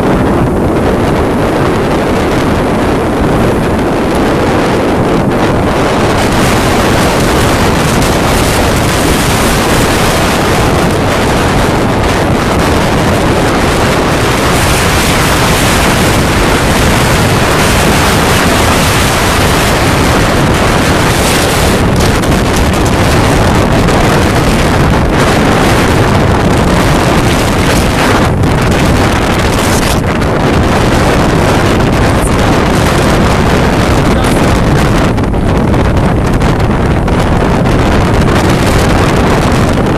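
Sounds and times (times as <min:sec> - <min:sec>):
sea waves breaking: 0:00.0 - 0:39.9
storm wind on microphone: 0:00.0 - 0:39.9.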